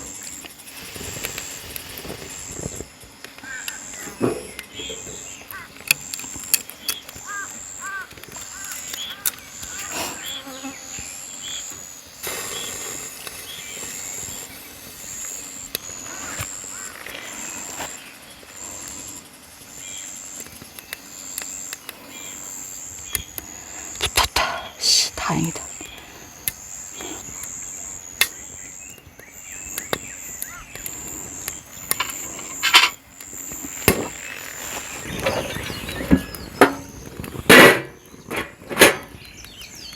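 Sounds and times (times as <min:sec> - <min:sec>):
campfire crackling and popping: 0:00.0 - 0:10.0, 0:11.3 - 0:24.4, 0:25.7 - 0:39.7
insects trilling: 0:00.0 - 0:39.9.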